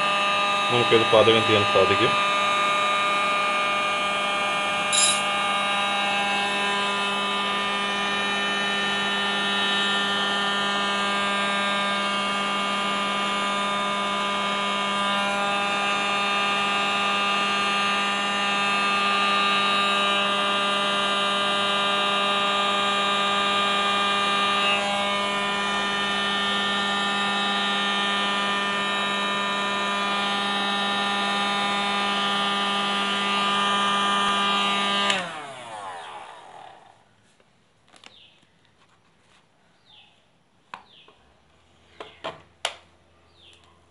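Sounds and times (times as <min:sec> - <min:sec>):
hot air gun humming: 0:00.0 - 0:37.0.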